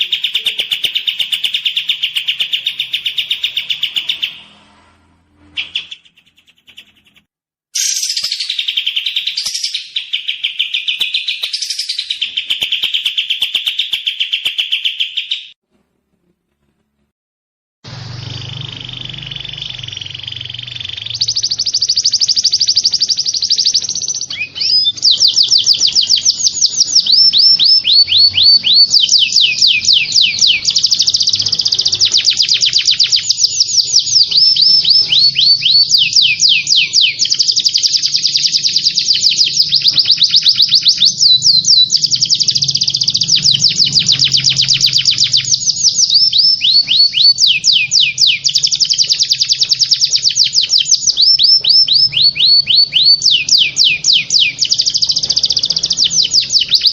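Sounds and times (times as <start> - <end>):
songbird trills: 7.8 - 15.6, 18.4 - 56.9.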